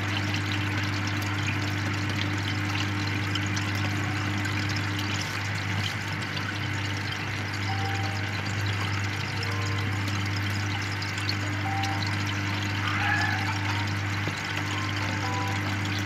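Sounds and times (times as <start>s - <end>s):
airstone bubbling: 0.0s - 16.0s
aquarium air pump humming: 0.0s - 16.0s
faint higher hum: 0.2s - 16.0s.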